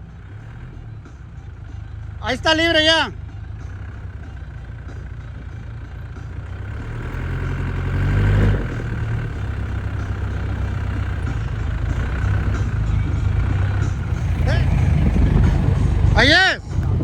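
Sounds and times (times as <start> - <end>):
vehicle engine pulling under load: 0.0 - 17.0.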